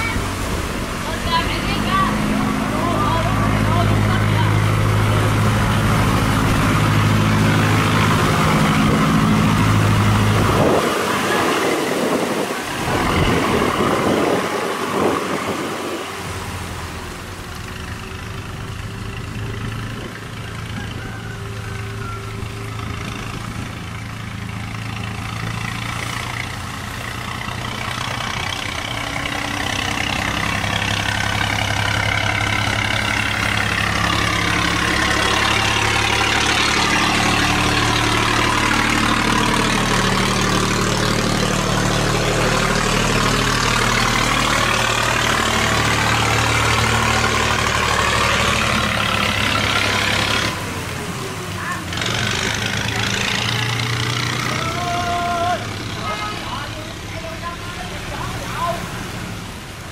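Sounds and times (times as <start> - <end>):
boat engine running hard: 0.0 - 59.9
water rushing and churning: 0.0 - 59.9.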